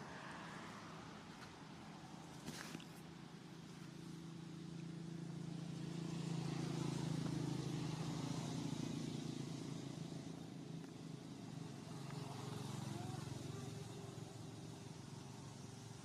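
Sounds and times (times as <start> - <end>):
passing vehicle engine hum: 0.0 - 16.0.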